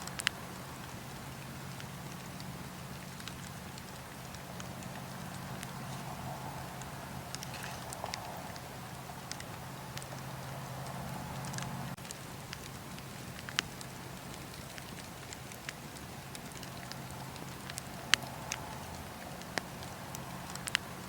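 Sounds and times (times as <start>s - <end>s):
burning wood popping: 0.0s - 21.0s
wood fire crackling: 0.0s - 21.0s.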